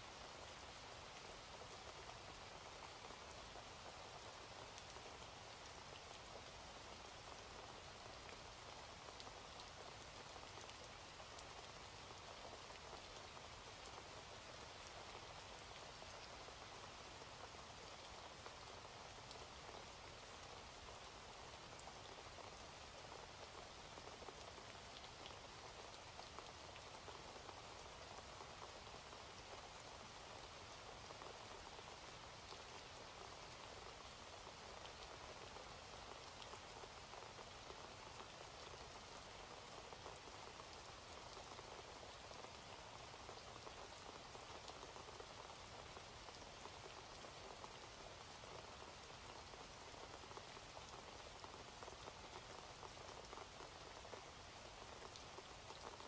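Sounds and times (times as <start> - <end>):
faint steady rain: 0.0 - 56.0.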